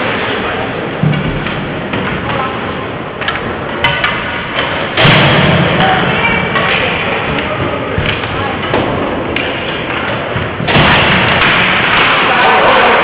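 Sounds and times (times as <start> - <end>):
crowd din: 0.0 - 13.0
puck and sticks hitting boards: 1.0 - 13.0.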